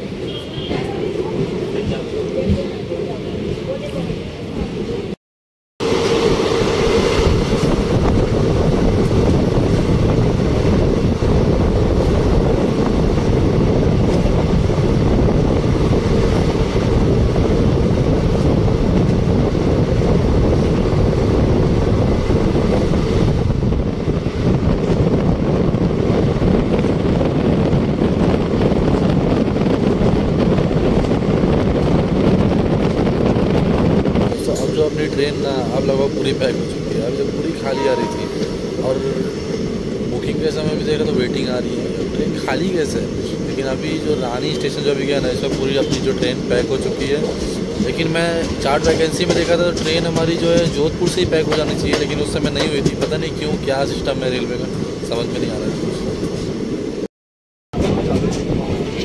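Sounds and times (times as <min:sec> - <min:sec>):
train wheels rolling on track: 0:05.8 - 0:57.1, 0:57.8 - 0:59.0
wind rushing past microphone: 0:05.8 - 0:57.1, 0:57.7 - 0:59.0.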